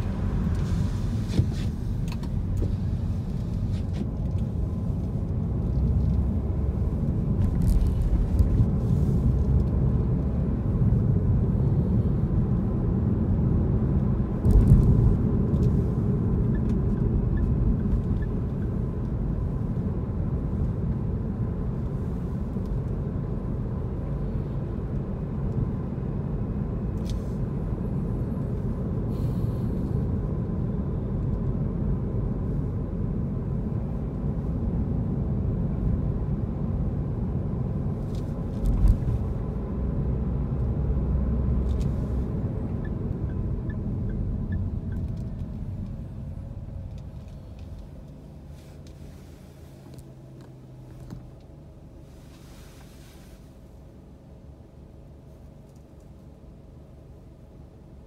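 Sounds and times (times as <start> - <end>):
car interior engine rumble: 0.0 - 58.0.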